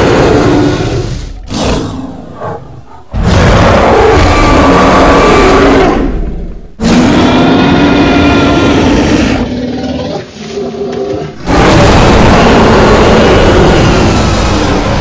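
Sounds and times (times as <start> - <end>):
dinosaur roar: 0.0 - 15.0.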